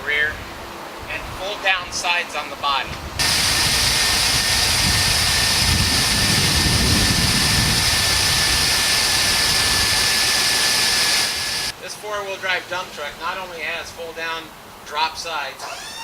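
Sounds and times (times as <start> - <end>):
constant high whine: 0.0 - 16.0.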